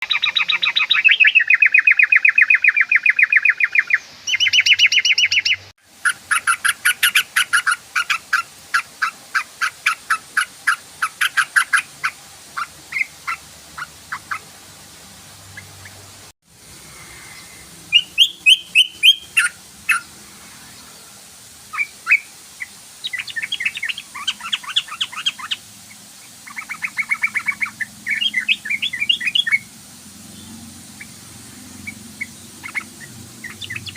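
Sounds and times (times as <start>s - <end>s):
bulbul chattering calls: 0.0s - 14.5s, 17.0s - 20.2s, 21.7s - 29.7s, 30.3s - 33.9s.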